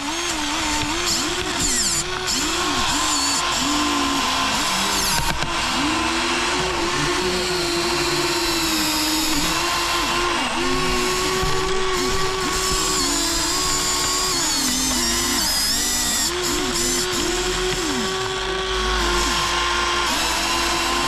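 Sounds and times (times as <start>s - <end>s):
small electric gear motors whining: 0.0s - 21.0s.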